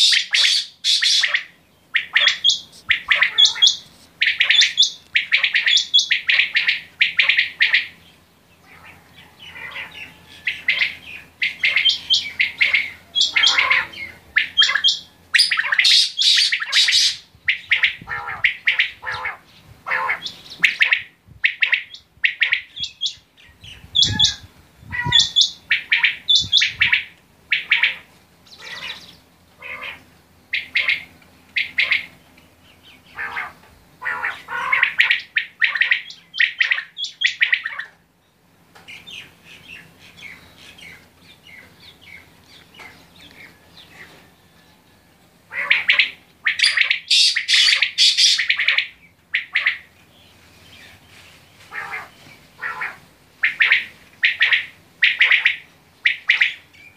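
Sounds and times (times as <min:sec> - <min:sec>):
quail chirping calls: 0:00.0 - 0:38.0, 0:38.8 - 0:56.9.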